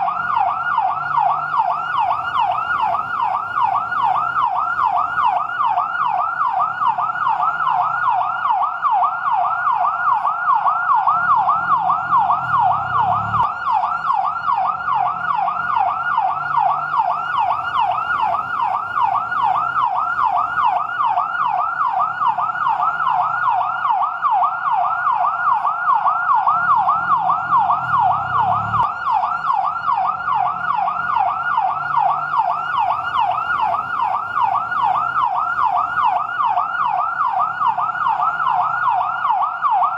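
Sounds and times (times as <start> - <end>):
fire truck yelp siren: 0.0 - 39.9.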